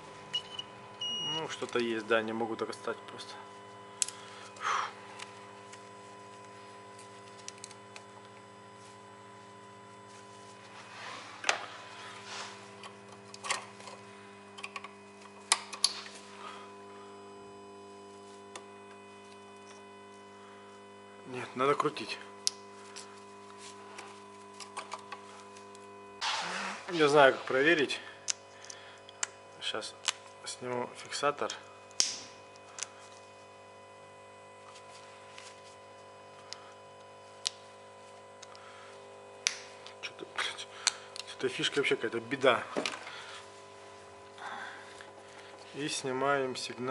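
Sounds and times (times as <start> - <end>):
steady electrical hum: 0.0 - 46.9.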